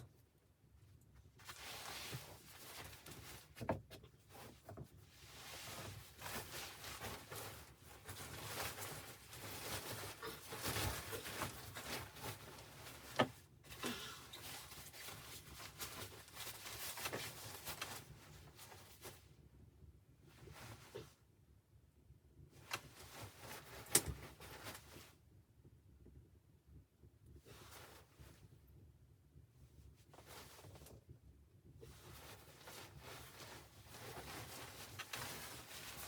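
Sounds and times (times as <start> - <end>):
rustling and handling: 0.0 - 19.4, 20.3 - 21.2, 22.6 - 25.3, 27.4 - 28.6, 29.6 - 31.2, 31.8 - 36.0.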